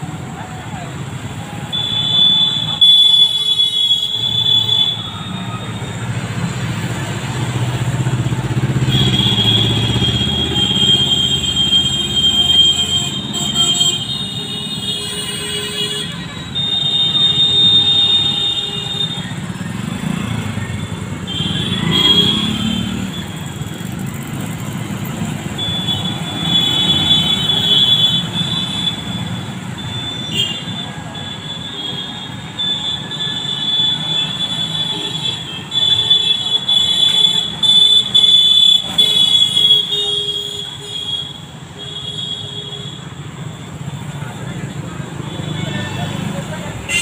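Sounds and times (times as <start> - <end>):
motorcycles passing: 4.2 - 15.0, 16.0 - 47.0.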